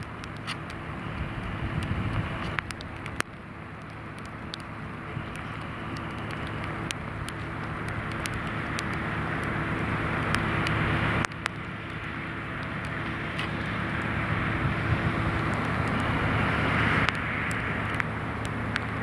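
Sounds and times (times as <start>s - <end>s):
heavy rain hissing: 0.0s - 19.0s
raindrop ticks: 0.0s - 19.0s.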